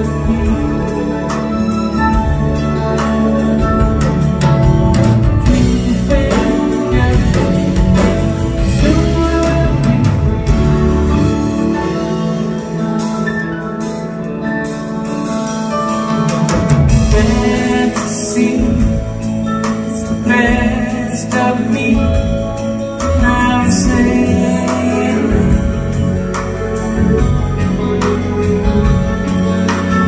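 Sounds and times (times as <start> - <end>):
drum kit: 0.0 - 30.0
electric guitar: 0.0 - 30.0
sustained keyboard chords: 0.0 - 30.0.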